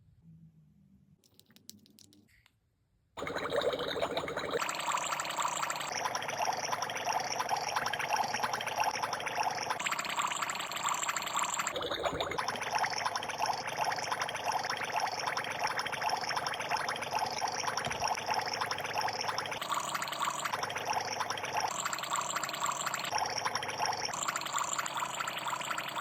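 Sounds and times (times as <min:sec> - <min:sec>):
water pouring and trickling: 0:03.2 - 0:26.0.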